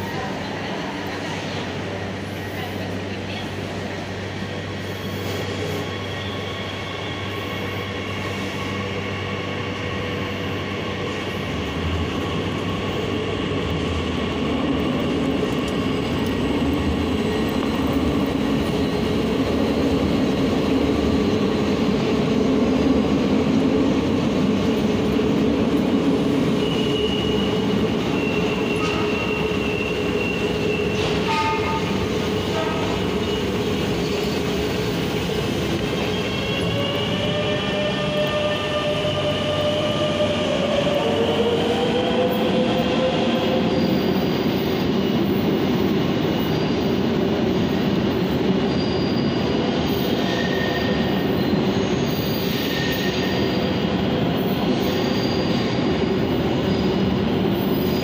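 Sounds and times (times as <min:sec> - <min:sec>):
electric train rumble: 0:00.0 - 0:58.0.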